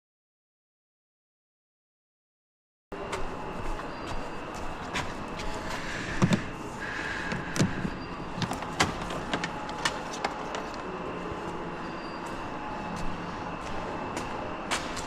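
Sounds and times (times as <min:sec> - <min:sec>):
steady background hum: 0:02.9 - 0:15.0.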